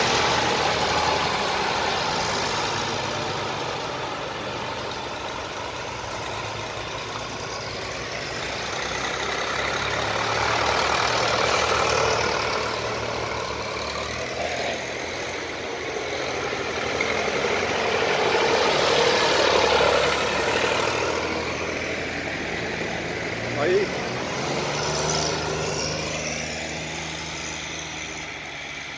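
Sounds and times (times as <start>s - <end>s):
tractor engines driving past: 0.0s - 28.9s.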